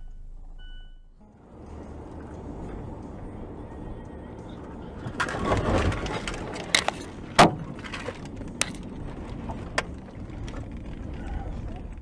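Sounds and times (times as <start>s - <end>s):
road noise inside car: 0.0s - 12.0s.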